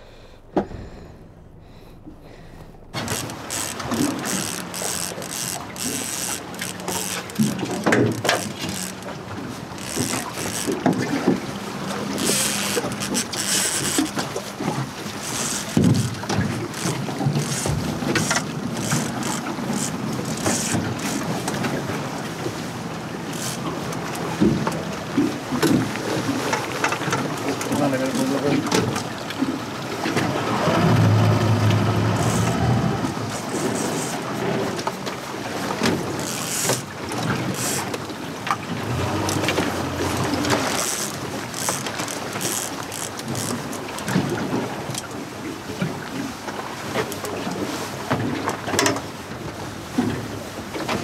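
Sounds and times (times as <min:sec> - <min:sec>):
boat engine humming: 0:00.0 - 0:51.0.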